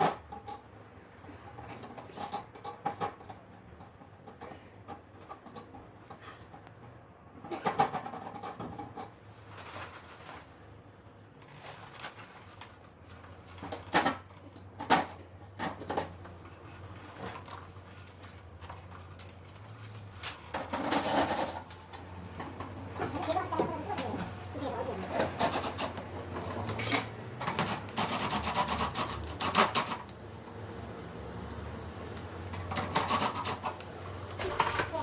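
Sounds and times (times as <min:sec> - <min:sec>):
clatter of objects being handled: 0:00.0 - 0:30.1, 0:32.1 - 0:35.0.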